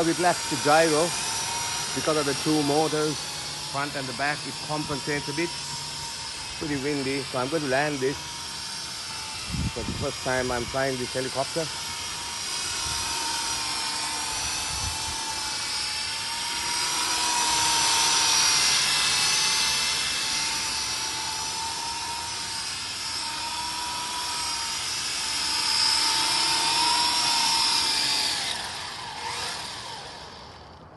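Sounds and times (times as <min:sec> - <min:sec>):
toy helicopter rotors whining: 0:00.0 - 0:30.9.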